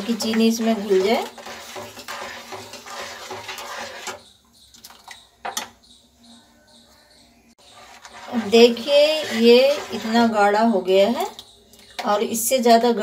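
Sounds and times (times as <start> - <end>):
spoon stirring and scraping pan: 0.0 - 5.9, 7.6 - 13.0.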